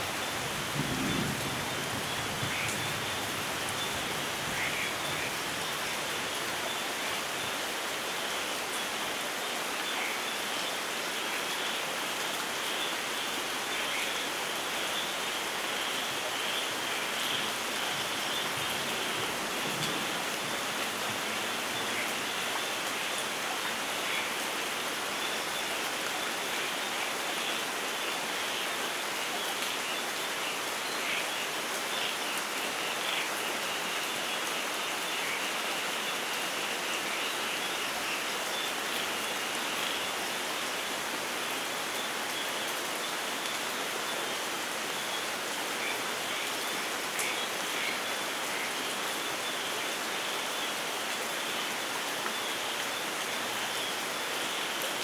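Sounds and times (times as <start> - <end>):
steady rainfall patter: 0.0 - 55.0.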